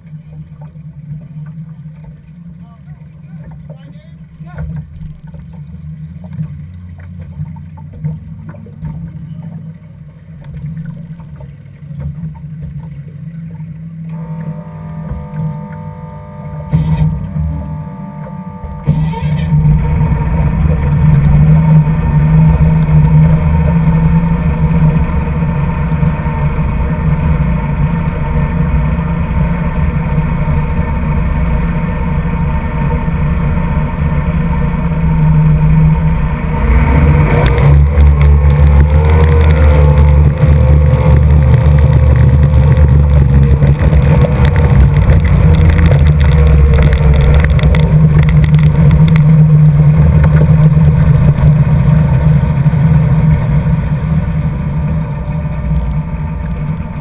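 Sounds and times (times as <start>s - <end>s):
outboard motor running hard: 0.0s - 57.0s
water rushing: 0.0s - 57.0s.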